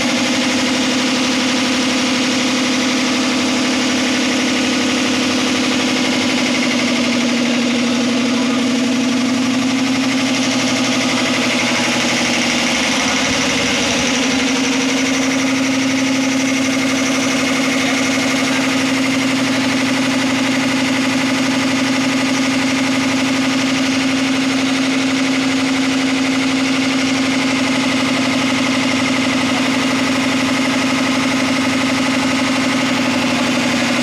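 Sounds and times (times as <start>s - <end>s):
air compressor chugging: 0.0s - 34.0s.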